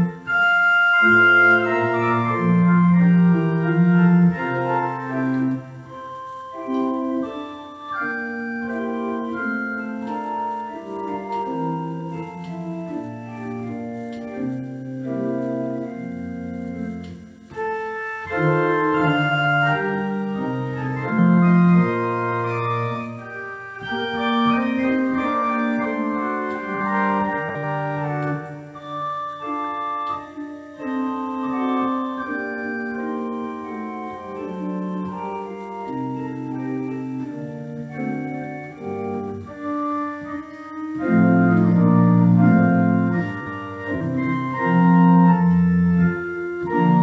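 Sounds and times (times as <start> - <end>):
church organ: 0.0 - 47.0.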